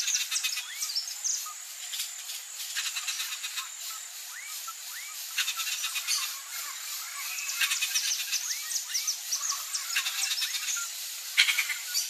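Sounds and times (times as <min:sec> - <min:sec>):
bird whistles and chirps: 0:00.0 - 0:01.6, 0:02.8 - 0:12.0
rapid harsh clicking bird notes: 0:01.8 - 0:12.0.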